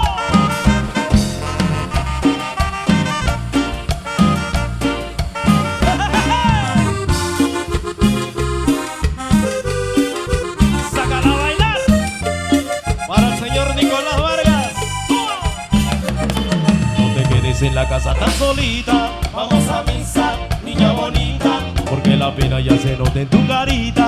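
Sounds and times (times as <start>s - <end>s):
latin band playing: 0.0s - 24.0s.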